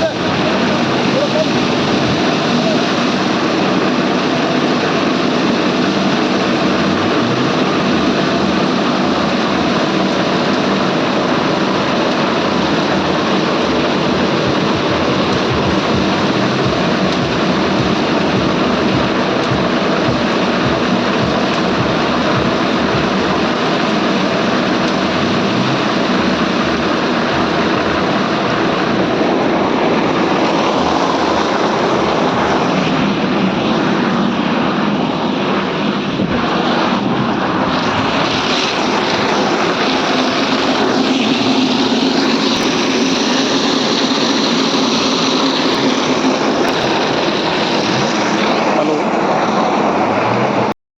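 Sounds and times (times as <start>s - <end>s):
machinery engine droning: 0.0s - 50.8s.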